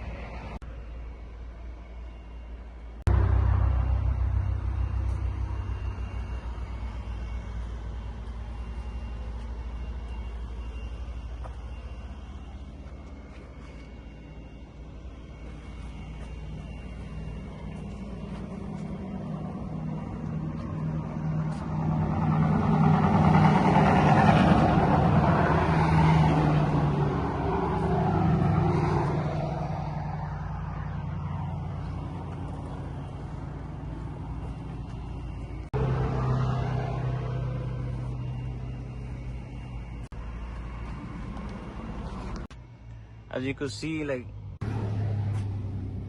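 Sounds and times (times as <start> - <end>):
car engine running: 3.1 - 46.0.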